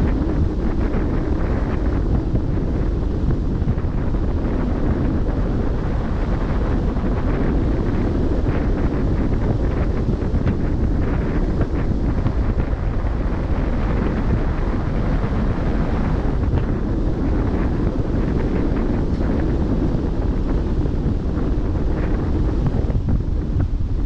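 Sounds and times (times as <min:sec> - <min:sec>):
rushing sea water: 0:00.0 - 0:24.0
wind buffeting microphone: 0:00.0 - 0:24.0.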